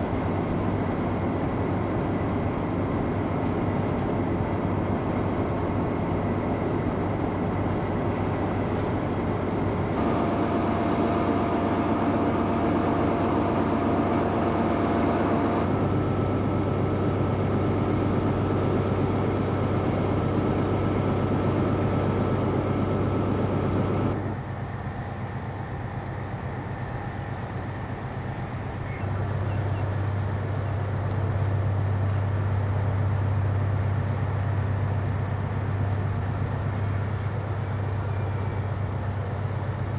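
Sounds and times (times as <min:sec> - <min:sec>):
low hum of train machinery: 0:00.0 - 0:39.9
trains: 0:00.0 - 0:39.9.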